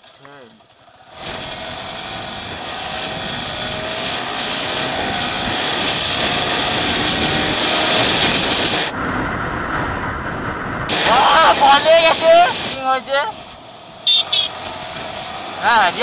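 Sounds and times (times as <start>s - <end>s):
wind rushing over microphone: 1.2s - 16.0s.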